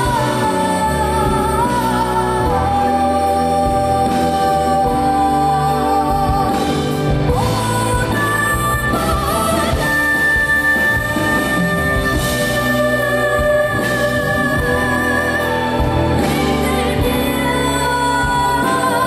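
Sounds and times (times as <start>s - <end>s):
live band playing: 0.0s - 19.0s
woman singing: 0.0s - 19.0s.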